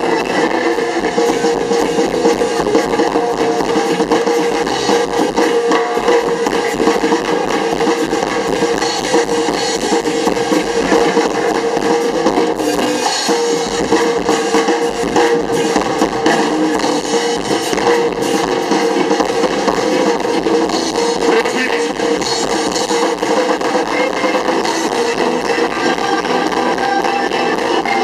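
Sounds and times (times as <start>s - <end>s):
blues-rock band playing: 0.0s - 28.0s.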